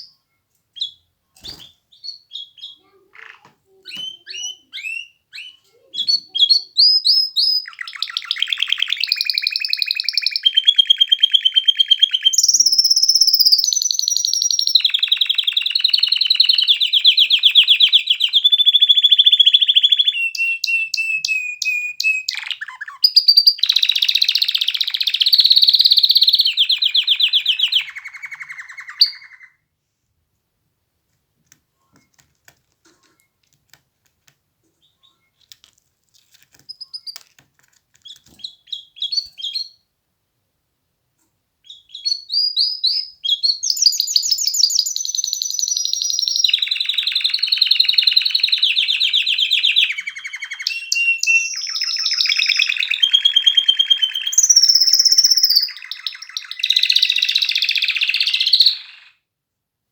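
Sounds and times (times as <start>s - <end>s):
canary singing trills: 0.8s - 29.6s, 36.6s - 37.3s, 38.0s - 39.9s, 41.6s - 59.2s.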